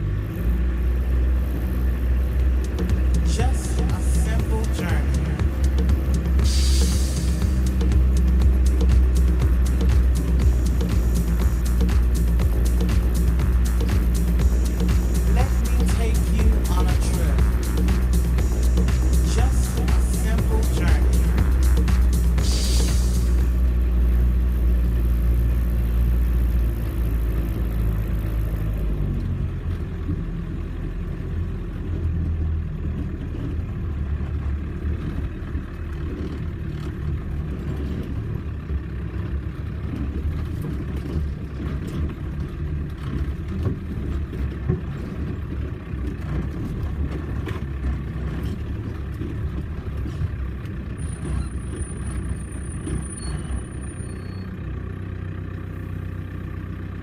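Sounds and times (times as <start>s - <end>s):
vehicle engine running low revs: 0.0s - 57.0s.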